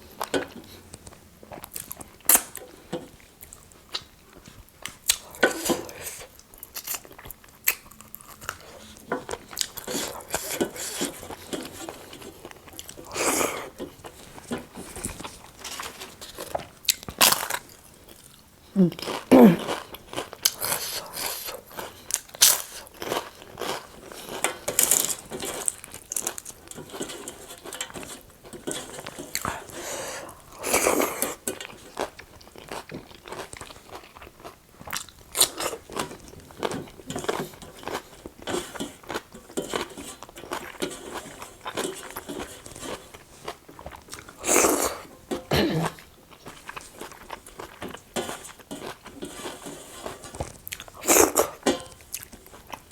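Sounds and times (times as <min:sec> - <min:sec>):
person crunching and chewing: 0:04.8 - 0:52.9.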